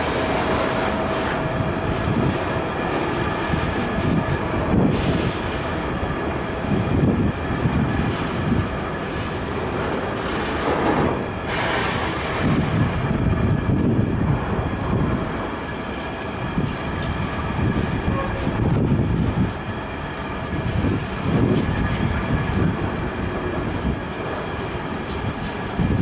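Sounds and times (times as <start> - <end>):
train wheels clattering on rails: 0.0 - 13.2, 15.0 - 26.0.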